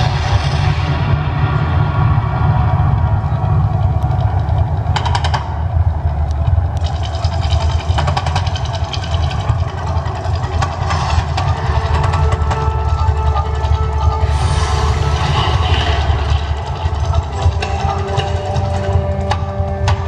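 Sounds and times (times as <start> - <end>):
crackling bursts: 0.0 - 20.0
deep rumble: 0.0 - 20.0.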